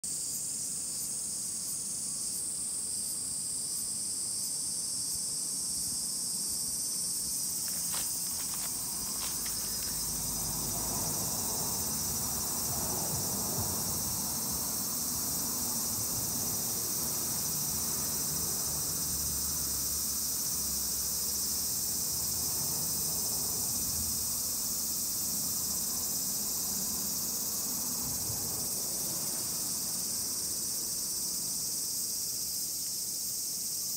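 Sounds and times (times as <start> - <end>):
insects chorus: 0.0 - 33.9.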